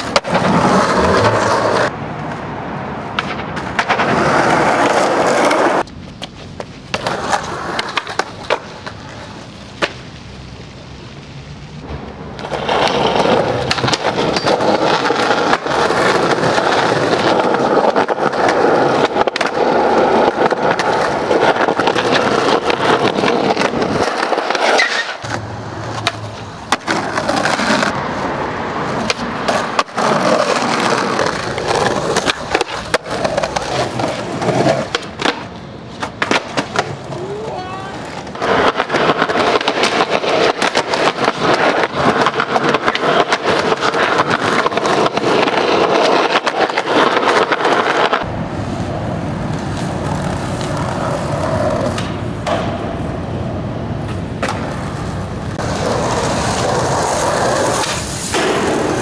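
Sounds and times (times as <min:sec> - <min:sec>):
skateboard clacks: 0:00.0 - 0:10.2, 0:11.8 - 0:59.0
skateboard wheels rolling on concrete: 0:00.0 - 0:59.0.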